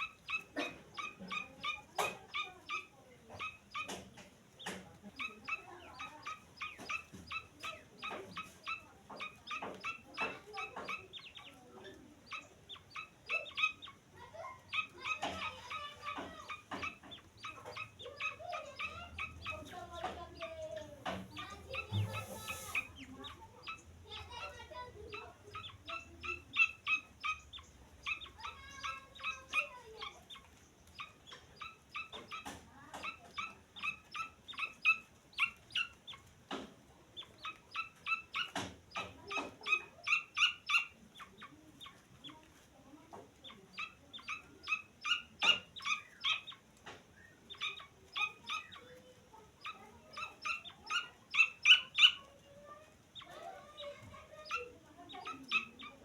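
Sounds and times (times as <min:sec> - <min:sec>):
bird chick peeping: 0:00.0 - 0:56.0.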